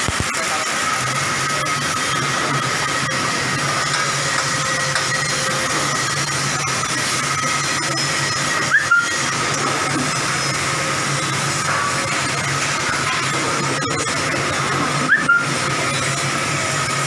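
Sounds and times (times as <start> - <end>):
arc welder hissing and frying: 0.0 - 17.0.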